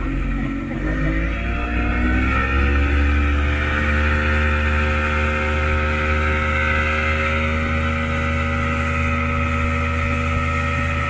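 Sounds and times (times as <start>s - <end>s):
outboard motor running at speed: 0.0s - 11.0s.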